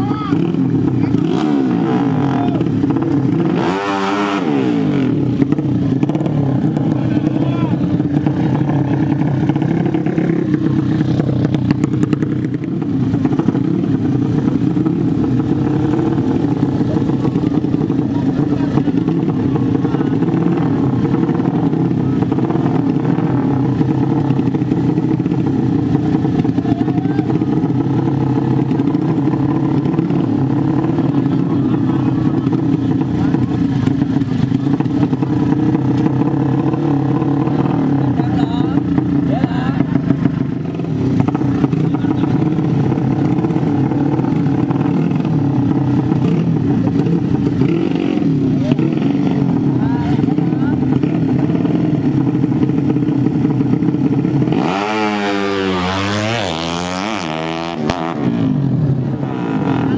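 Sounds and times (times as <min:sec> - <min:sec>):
motorcycle engines running: 0:00.0 - 0:59.9.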